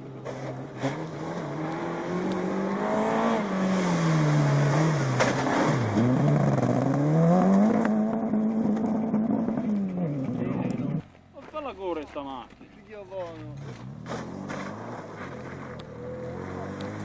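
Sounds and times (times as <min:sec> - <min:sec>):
rally car engine revving: 0:00.0 - 0:11.1, 0:13.4 - 0:17.0.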